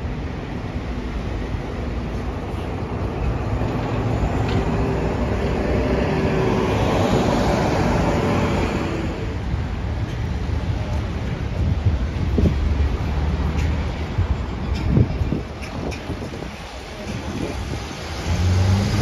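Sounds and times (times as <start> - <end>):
bus engine rumble: 0.0 - 19.0
roadway noise: 0.0 - 19.0.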